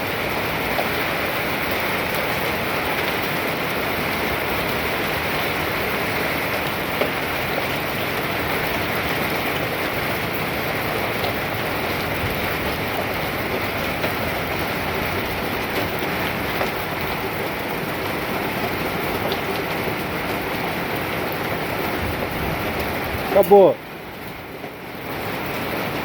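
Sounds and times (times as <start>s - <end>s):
rain and hail pattering: 0.0s - 26.0s
hailstones knocking: 0.1s - 26.0s.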